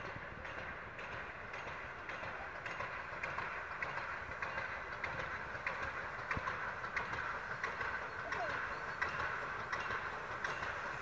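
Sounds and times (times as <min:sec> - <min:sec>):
continuous rushing noise: 0:00.0 - 0:11.0
steam locomotive chuffing: 0:00.0 - 0:11.0.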